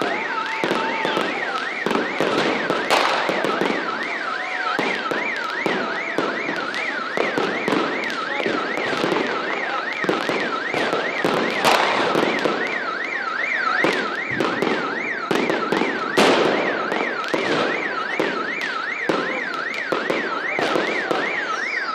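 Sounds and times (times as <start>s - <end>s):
electronic alarm warbling: 0.0s - 21.9s
fireworks banging and crackling: 0.0s - 21.9s.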